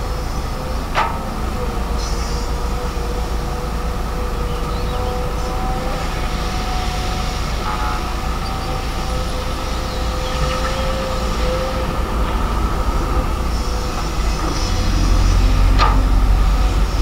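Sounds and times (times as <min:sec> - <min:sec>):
excavator diesel drone: 0:00.0 - 0:17.0
high steady whine: 0:00.0 - 0:17.0.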